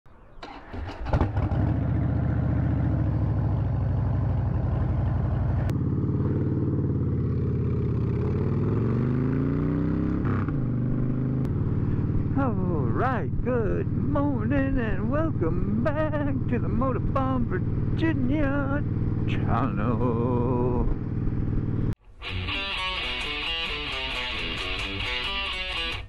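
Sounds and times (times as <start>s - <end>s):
motorcycle engine accelerating: 0.4s - 22.0s.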